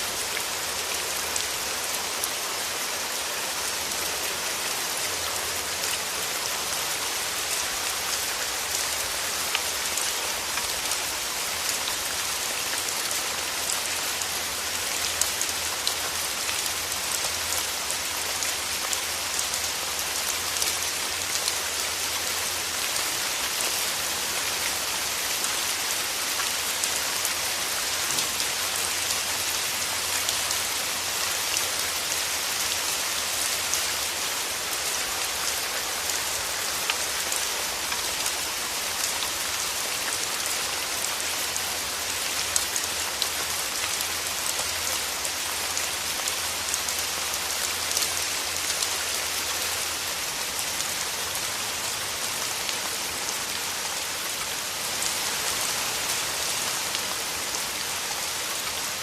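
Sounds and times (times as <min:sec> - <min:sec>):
rain falling through trees: 0:00.0 - 0:59.0.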